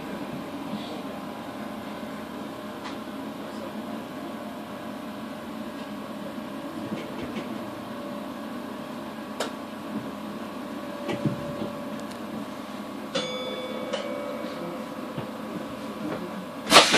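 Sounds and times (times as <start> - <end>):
train equipment humming: 0.0 - 16.9.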